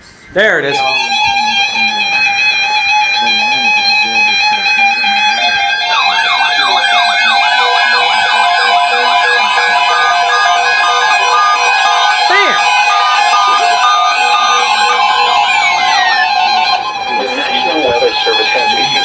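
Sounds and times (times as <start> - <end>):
fast siren-like warble: 0.7 - 19.0
weather radio alarm tones: 0.7 - 19.0.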